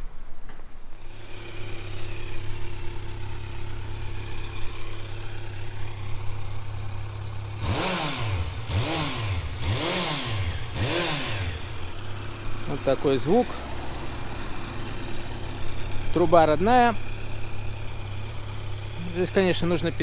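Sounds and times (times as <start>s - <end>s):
motorcycle engine idling: 0.9s - 20.0s
motorcycle engine revving: 0.9s - 20.0s.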